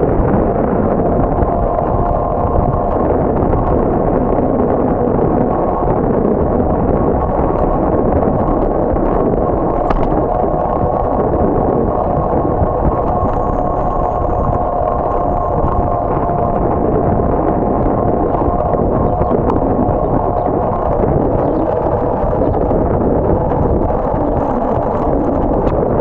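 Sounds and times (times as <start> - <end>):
bicycle road noise on pavement: 0.0 - 26.0
faint steady whine: 0.0 - 26.0
wind on microphone: 0.0 - 26.0.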